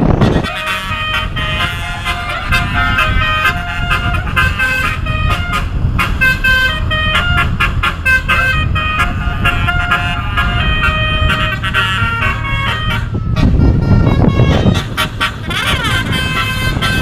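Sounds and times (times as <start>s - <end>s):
multi-tone bus horn tune: 0.0s - 17.0s
steady low rumble: 0.0s - 17.0s.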